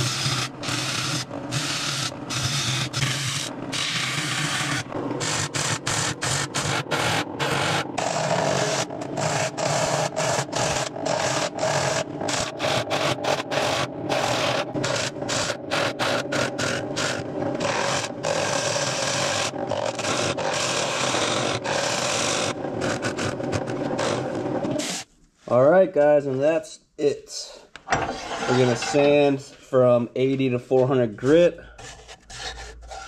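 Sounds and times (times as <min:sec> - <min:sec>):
gouge scraping wood on lathe: 0:00.0 - 0:25.0, 0:28.0 - 0:29.4, 0:31.2 - 0:33.0.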